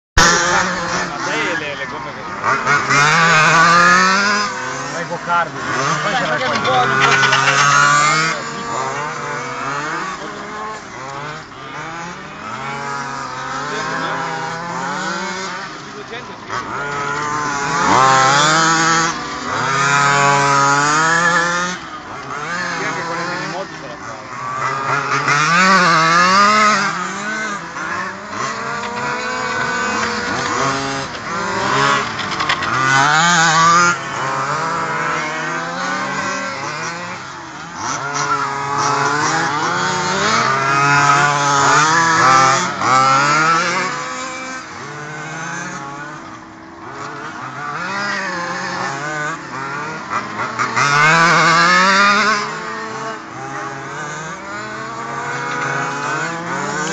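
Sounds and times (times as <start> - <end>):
rc car engines revving: 0.2 - 56.9.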